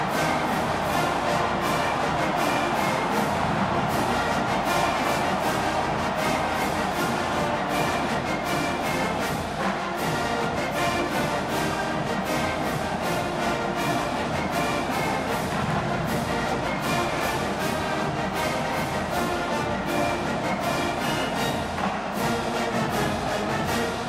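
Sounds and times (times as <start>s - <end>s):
marching band playing brass music: 0.0s - 24.0s.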